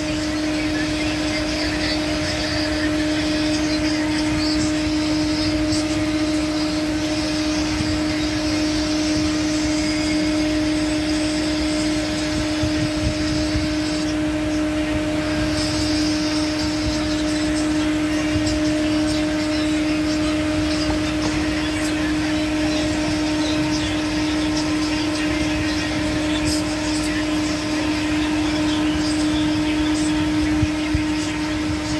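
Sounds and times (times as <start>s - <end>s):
constant mechanical hum: 0.0s - 31.9s.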